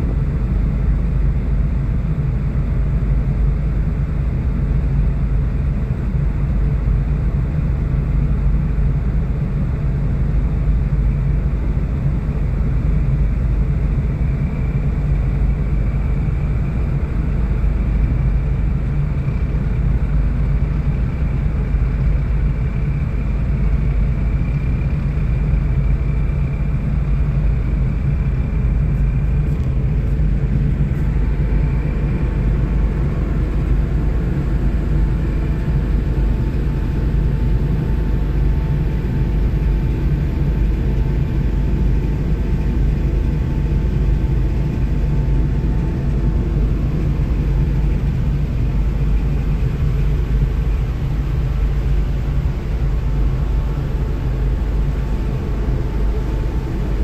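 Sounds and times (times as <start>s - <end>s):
ship engine rumble: 0.0s - 57.0s.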